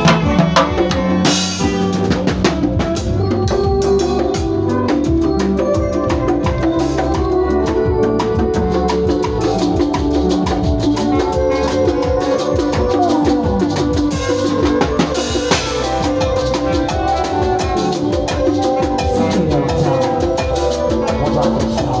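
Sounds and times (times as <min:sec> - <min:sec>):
drum kit beat: 0:00.0 - 0:22.0
electronic keyboard chords: 0:00.0 - 0:22.0.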